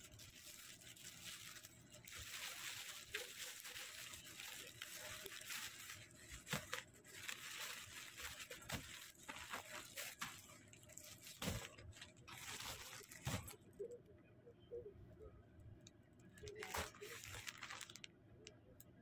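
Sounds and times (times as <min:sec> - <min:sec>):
plastic bags rustling: 0:00.0 - 0:13.7, 0:16.4 - 0:18.1.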